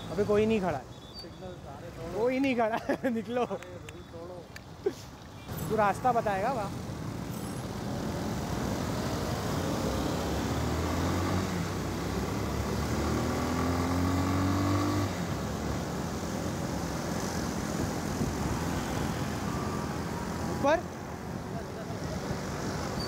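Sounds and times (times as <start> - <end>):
street traffic: 0.0 - 23.0
wind: 0.0 - 23.0.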